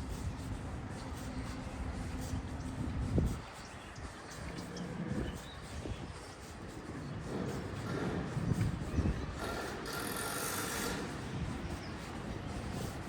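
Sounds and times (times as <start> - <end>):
street ambience: 0.0 - 13.0.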